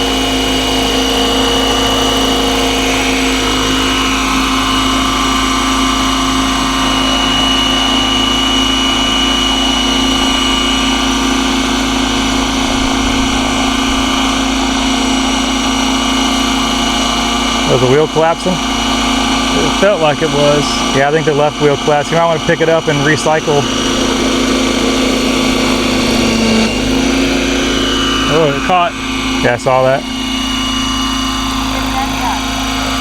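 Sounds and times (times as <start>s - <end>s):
rc helicopter motor whine: 0.0s - 33.0s.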